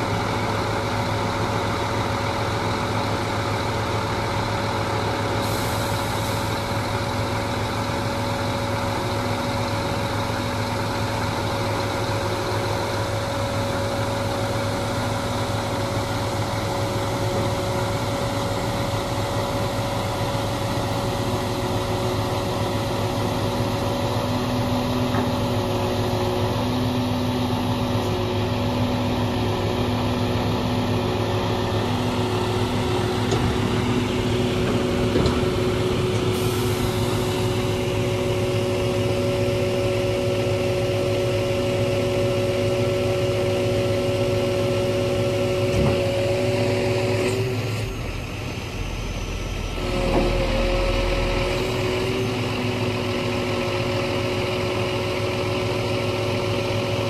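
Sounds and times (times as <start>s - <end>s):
diesel engine running: 0.0s - 57.0s
hydraulic whine: 9.9s - 57.0s.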